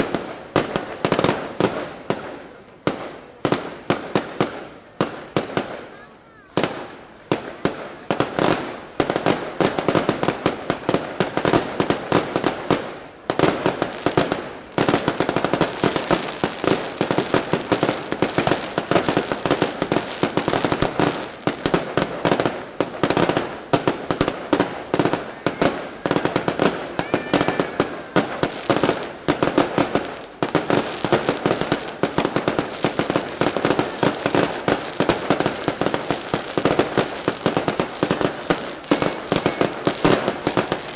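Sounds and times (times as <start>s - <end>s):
firecracker bangs: 6.6s - 40.9s.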